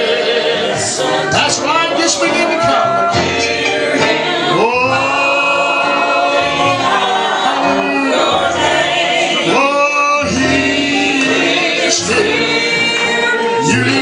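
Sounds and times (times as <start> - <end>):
group singing a gospel hymn: 0.0 - 14.0.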